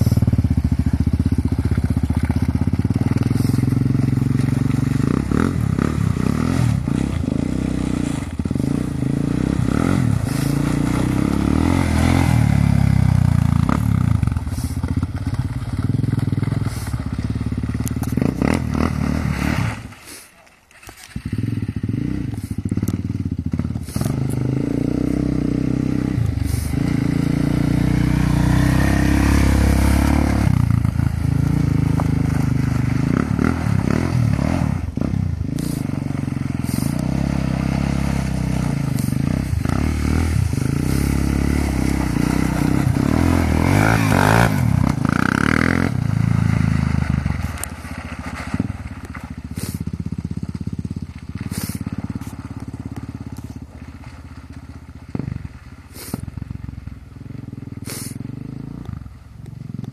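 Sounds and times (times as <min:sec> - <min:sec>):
quad bike engine revving: 0:00.0 - 0:20.2, 0:20.8 - 0:59.9.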